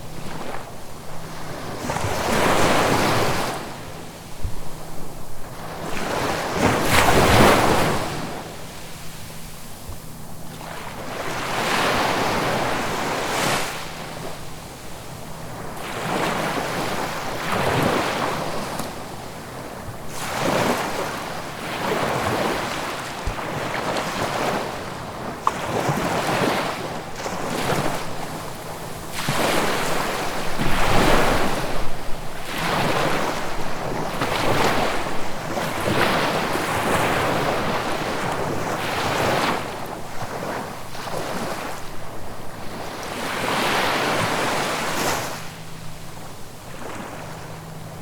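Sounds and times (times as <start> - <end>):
ocean waves breaking on shore: 0.0 - 48.0.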